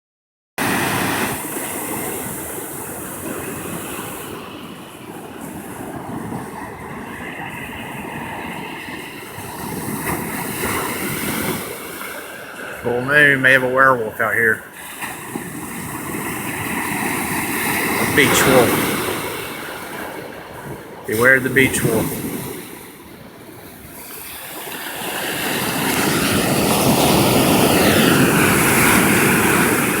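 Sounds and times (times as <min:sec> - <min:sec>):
ocean surf washing on beach: 0:00.6 - 0:30.0.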